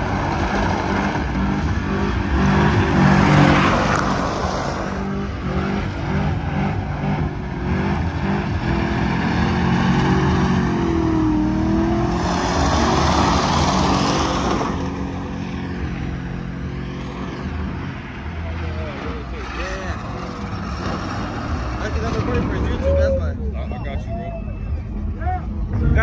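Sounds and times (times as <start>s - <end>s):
engine at high revs: 0.0s - 22.7s
tires spinning on pavement: 0.0s - 26.0s.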